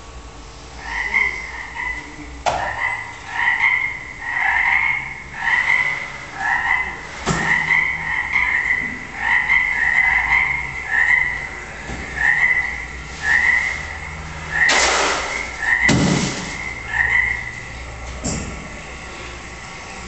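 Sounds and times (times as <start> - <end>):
amplified electronic croaking: 0.7 - 17.9.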